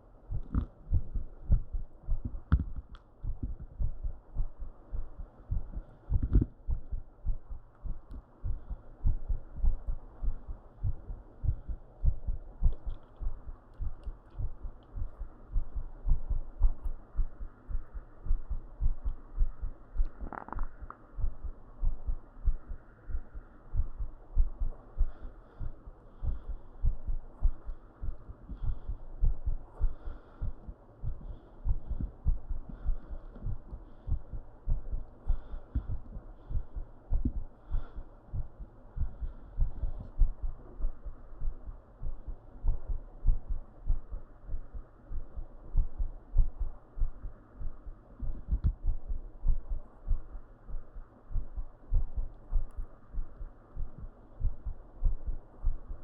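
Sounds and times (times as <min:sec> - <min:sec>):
amplified heartbeat thumps: 0:00.3 - 0:56.0.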